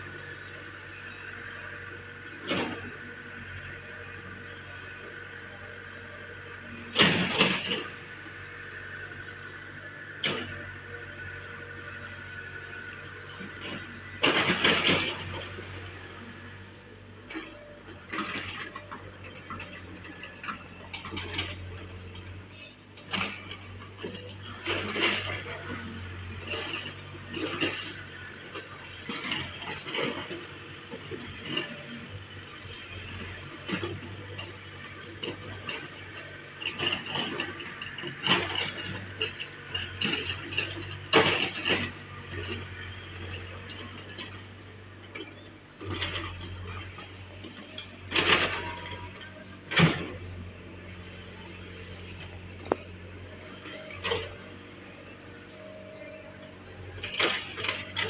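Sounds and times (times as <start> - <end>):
excavator engine hum: 0.0 - 58.0.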